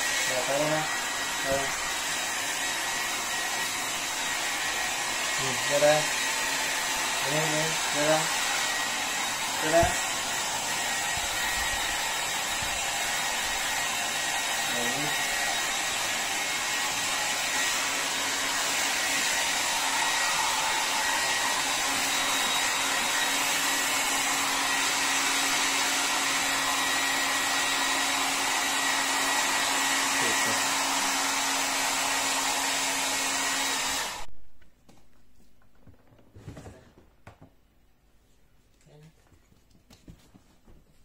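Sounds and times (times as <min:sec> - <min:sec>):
hair dryer running: 0:00.0 - 0:34.3.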